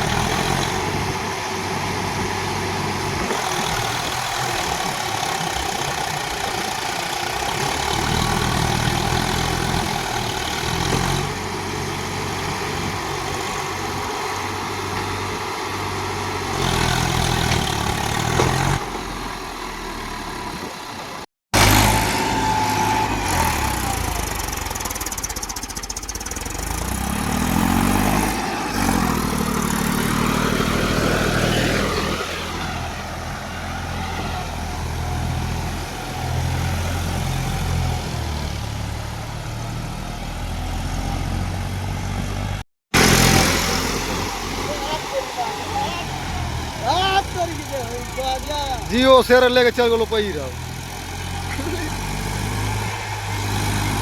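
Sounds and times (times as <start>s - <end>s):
engine revving: 0.0s - 20.7s, 21.5s - 54.0s
tractor diesel engines running: 0.0s - 54.0s.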